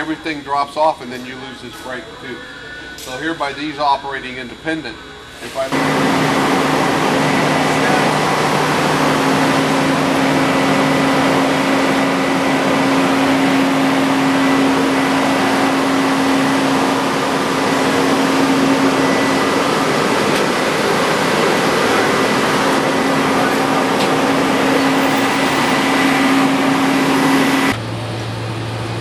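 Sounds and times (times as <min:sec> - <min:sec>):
machinery droning: 0:00.0 - 0:29.0.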